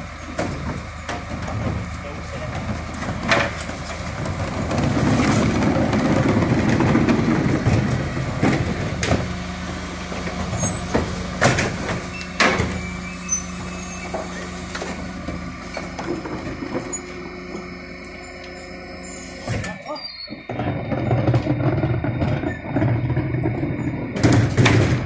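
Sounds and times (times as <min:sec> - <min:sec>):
garbage truck hydraulics humming: 0:00.0 - 0:25.0.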